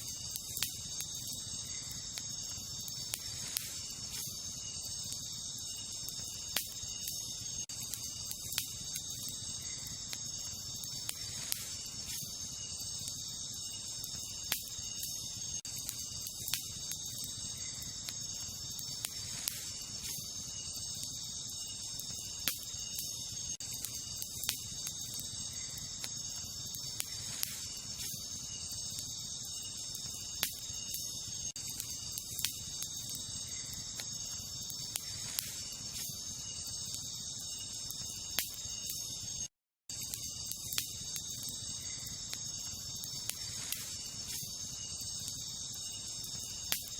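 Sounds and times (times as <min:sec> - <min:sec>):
campfire crackling and popping: 0:00.0 - 0:46.9
crickets chirping: 0:00.0 - 0:46.9.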